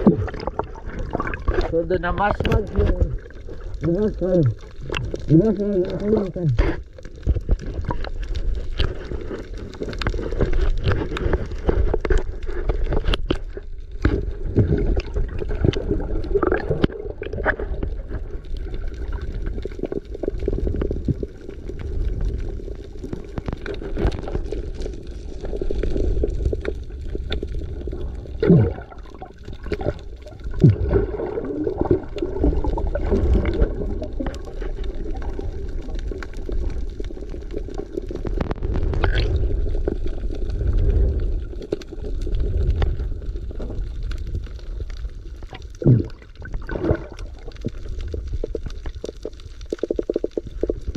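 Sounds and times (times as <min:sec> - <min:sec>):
water gurgling and sloshing: 0:00.0 - 0:50.9.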